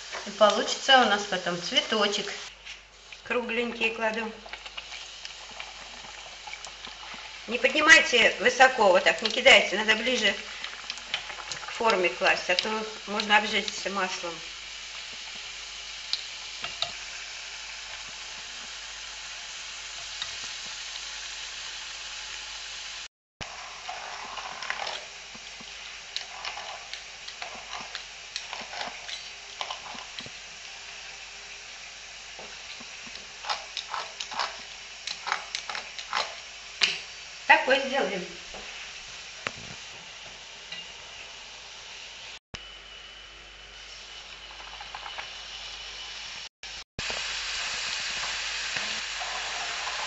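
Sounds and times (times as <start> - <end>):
dough sizzling in hot oil: 0.0 - 50.0.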